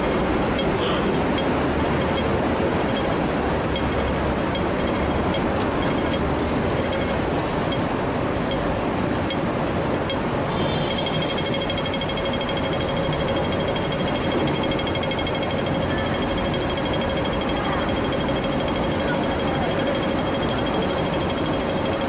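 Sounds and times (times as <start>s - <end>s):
crossing signal ticking: 0.0s - 22.0s
street traffic rumble: 0.0s - 22.0s.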